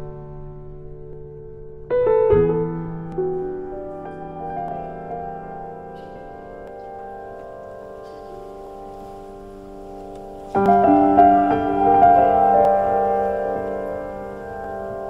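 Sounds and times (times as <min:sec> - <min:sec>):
piano chord ringing: 0:00.0 - 0:15.0
soft piano music: 0:00.0 - 0:15.0.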